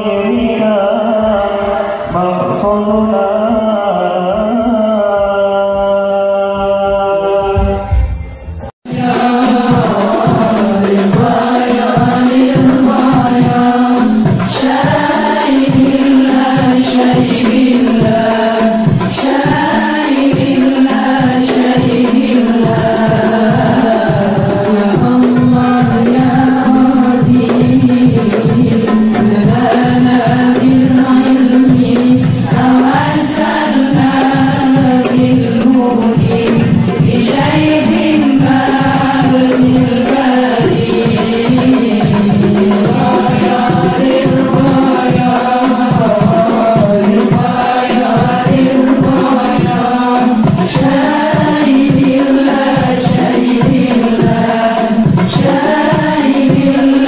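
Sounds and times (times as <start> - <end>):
voices chanting in unison: 0.0 - 8.0, 8.9 - 57.0
hand percussion beat: 7.6 - 57.0.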